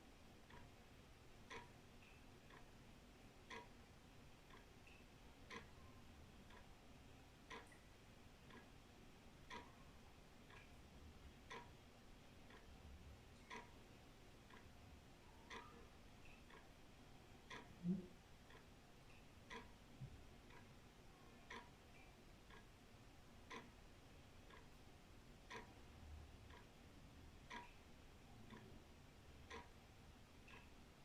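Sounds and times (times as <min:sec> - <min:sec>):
wall clock ticking: 0:00.0 - 0:31.0.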